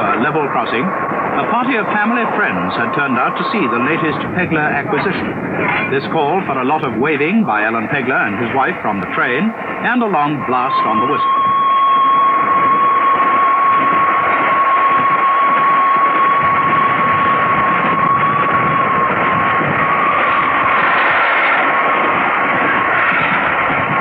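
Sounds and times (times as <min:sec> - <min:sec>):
rushing noise of running train: 0:00.0 - 0:24.0
steam locomotive whistle: 0:01.1 - 0:04.4, 0:07.6 - 0:24.0.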